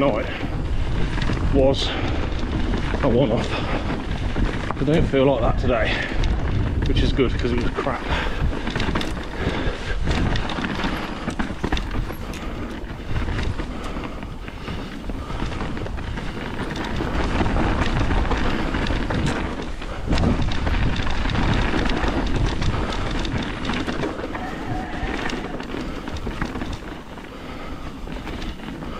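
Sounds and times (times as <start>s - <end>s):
bike knocks and rattles: 0.0s - 28.9s
tyres rolling over dirt: 0.0s - 28.9s
wind on microphone: 0.0s - 28.9s.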